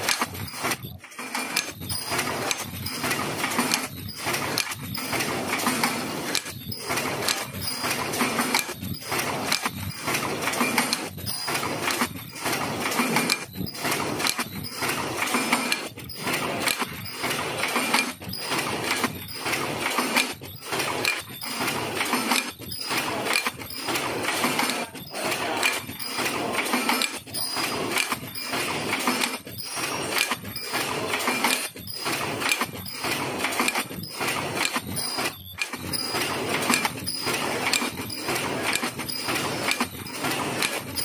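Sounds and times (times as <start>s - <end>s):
machine mechanical clatter: 0.0s - 41.0s.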